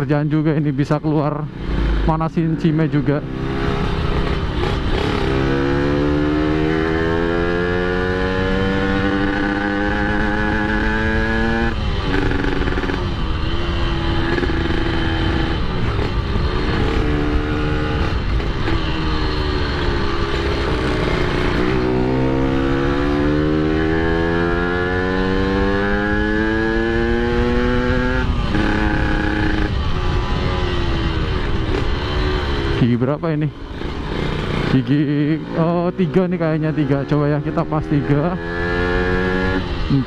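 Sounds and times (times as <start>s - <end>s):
two-stroke motorcycle engine revving: 0.0s - 40.0s
wind and road noise: 0.0s - 40.0s.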